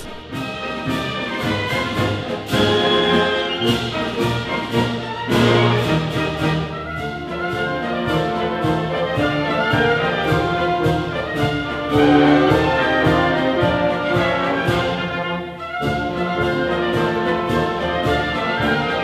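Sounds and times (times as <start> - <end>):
symphony orchestra playing: 0.0 - 19.0.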